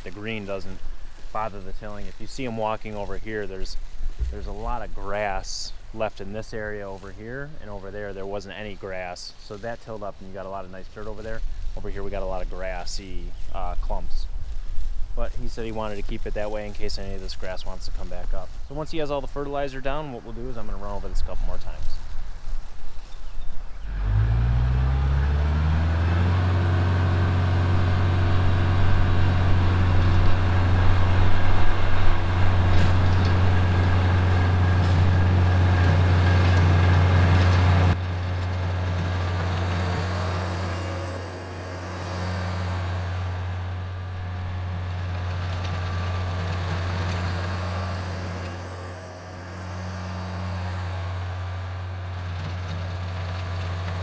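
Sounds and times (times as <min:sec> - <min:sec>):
tractor diesel engine running: 0:00.0 - 0:22.4, 0:23.8 - 0:54.0
rototiller in soil: 0:00.0 - 0:54.0.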